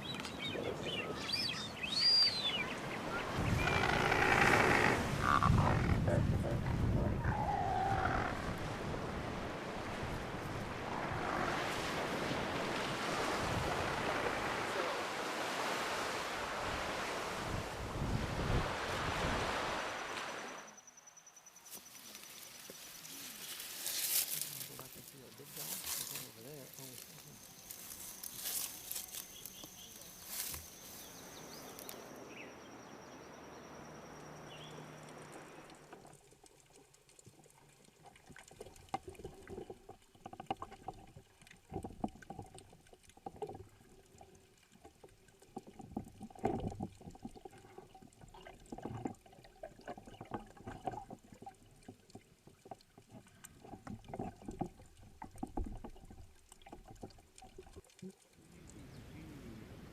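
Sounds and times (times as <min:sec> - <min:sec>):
water splashing and sloshing: 0:00.0 - 0:20.8, 0:21.4 - 0:58.9.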